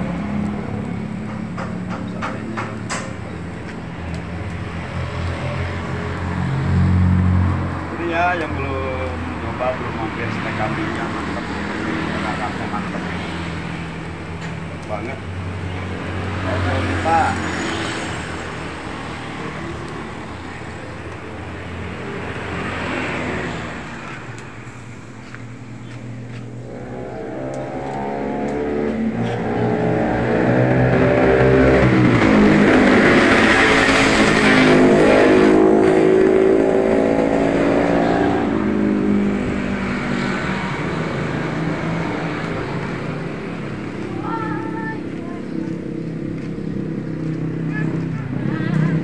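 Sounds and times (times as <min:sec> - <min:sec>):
vehicle engine passing: 0:00.0 - 0:49.0.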